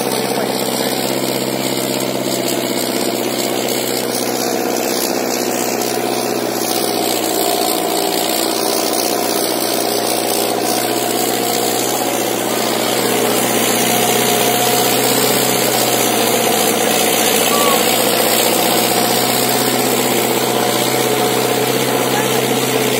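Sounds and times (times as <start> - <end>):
tractor diesel engine under load: 0.0 - 22.9.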